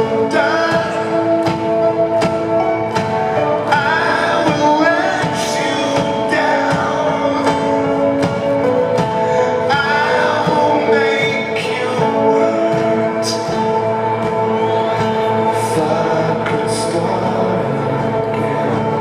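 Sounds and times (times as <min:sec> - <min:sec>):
man singing into a microphone: 0:00.0 - 0:01.6, 0:03.5 - 0:19.0
drums: 0:00.0 - 0:19.0
held keyboard chords: 0:00.0 - 0:19.0.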